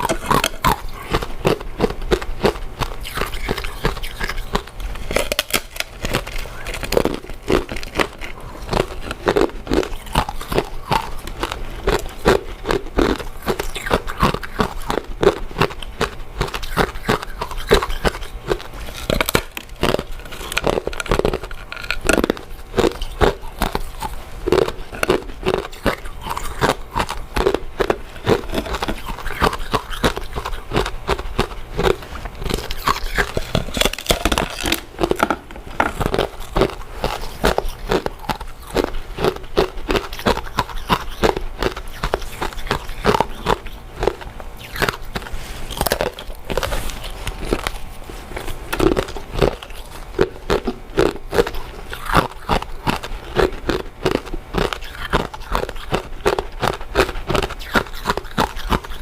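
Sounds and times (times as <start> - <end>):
close-miked chewing: 0.0 - 59.0.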